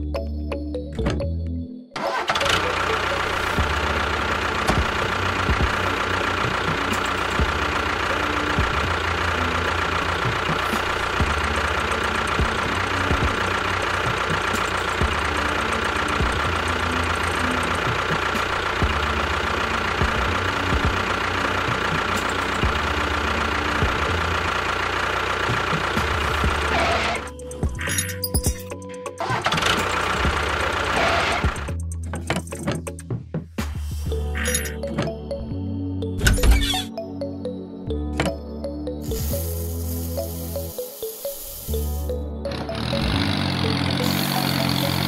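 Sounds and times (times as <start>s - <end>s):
engine running with knocking beat: 2.4s - 35.3s, 41.6s - 45.0s.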